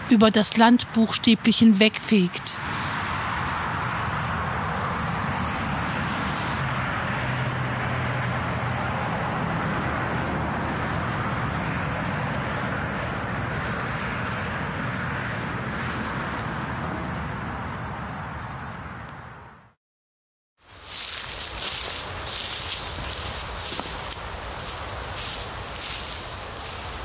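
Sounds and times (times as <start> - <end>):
distant motorway traffic roar: 0.0 - 19.8, 20.6 - 27.0.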